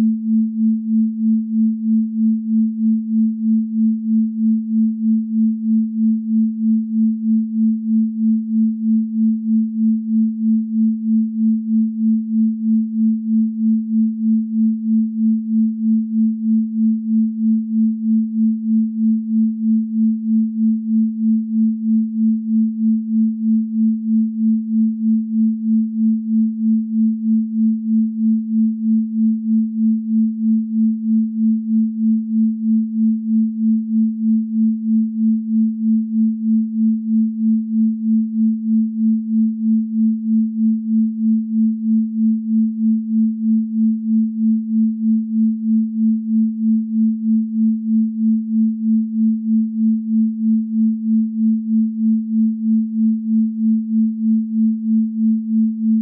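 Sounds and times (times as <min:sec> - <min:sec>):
pulsing sine tone: 0:00.0 - 0:56.0.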